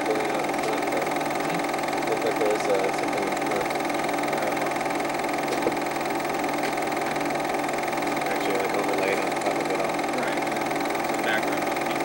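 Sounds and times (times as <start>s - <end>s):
film projector humming: 0.0s - 12.0s.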